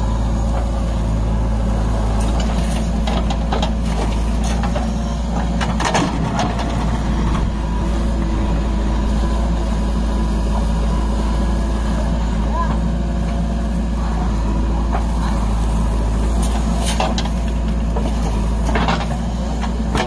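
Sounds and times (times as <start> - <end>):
diesel machinery droning: 0.0 - 20.0.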